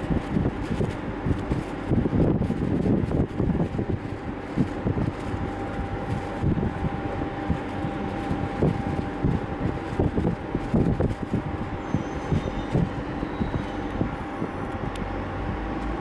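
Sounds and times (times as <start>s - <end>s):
faint steady whine: 0.0s - 16.0s
train rumble: 0.0s - 16.0s
wind buffeting microphone: 0.0s - 16.0s.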